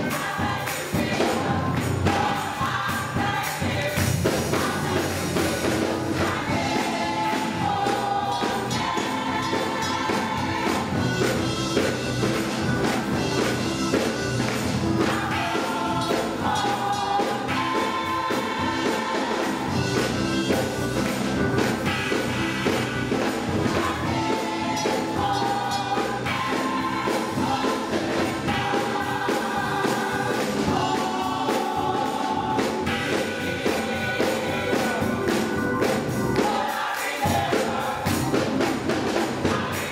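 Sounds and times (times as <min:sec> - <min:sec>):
gospel choir singing: 0:00.0 - 0:39.9
instrumental accompaniment with beat: 0:00.0 - 0:39.9.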